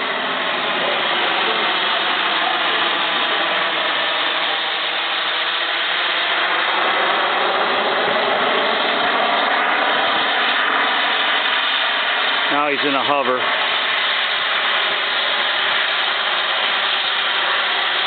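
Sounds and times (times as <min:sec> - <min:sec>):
model jet turbine running: 0:00.0 - 0:18.0.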